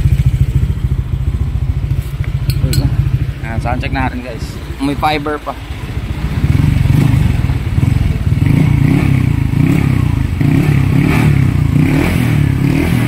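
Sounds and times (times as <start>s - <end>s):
scooter engine idling: 0.0s - 11.8s.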